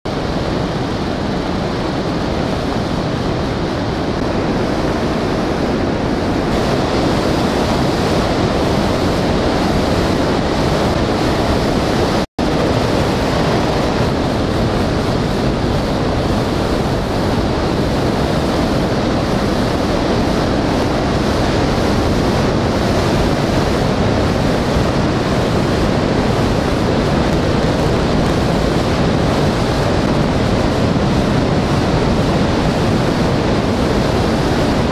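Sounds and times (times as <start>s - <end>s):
river rushing through rapids: 0.1s - 34.9s.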